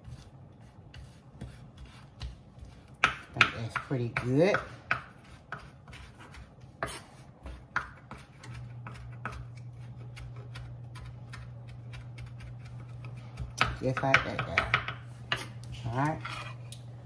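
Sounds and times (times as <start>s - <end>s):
low steady hum: 0.0s - 17.0s
knife chopping on wooden board: 0.9s - 16.1s.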